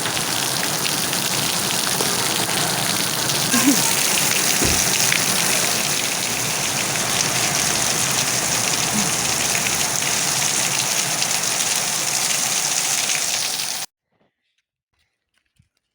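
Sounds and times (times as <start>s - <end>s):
heavy rain hissing: 0.0s - 13.9s.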